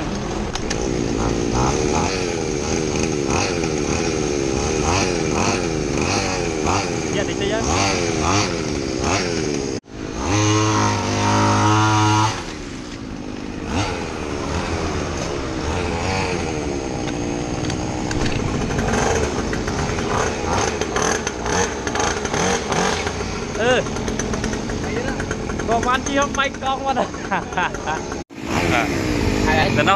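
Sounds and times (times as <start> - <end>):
two-stroke engine revving: 0.0 - 29.9.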